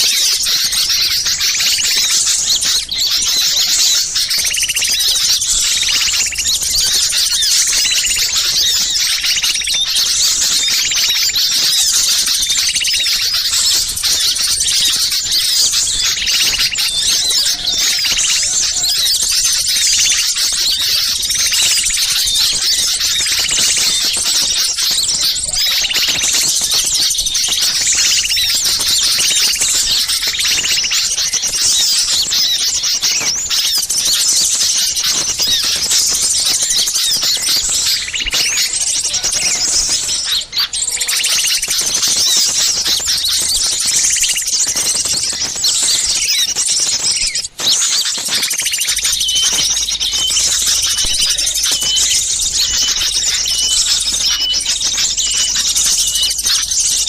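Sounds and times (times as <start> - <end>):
many small birds chirping: 0.0 - 57.0.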